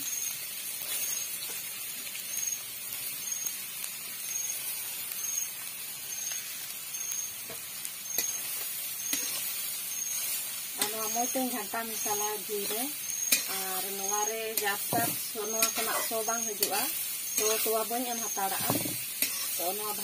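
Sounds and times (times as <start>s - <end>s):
carrots sizzling in hot oil: 0.0s - 20.0s.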